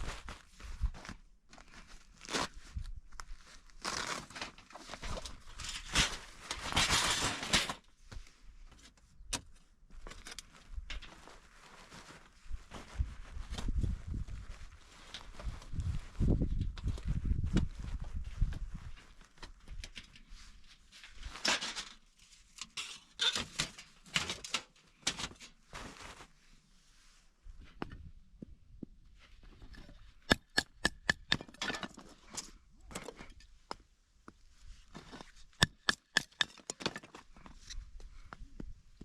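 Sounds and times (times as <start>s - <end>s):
rustling and scraping of gear: 0.0s - 28.4s, 29.0s - 39.0s.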